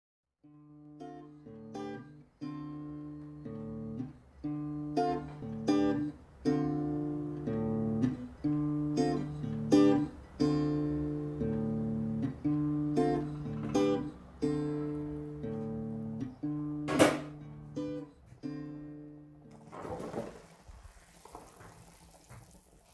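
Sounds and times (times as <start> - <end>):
acoustic guitar strumming: 0.5 - 20.3.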